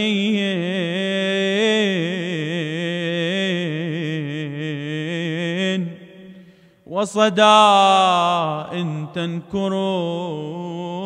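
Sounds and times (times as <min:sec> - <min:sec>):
man chanting a lament: 0:00.0 - 0:11.0.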